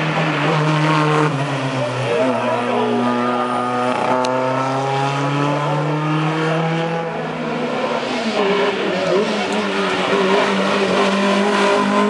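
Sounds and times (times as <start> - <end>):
racing car engine accelerating: 0.0 - 12.0.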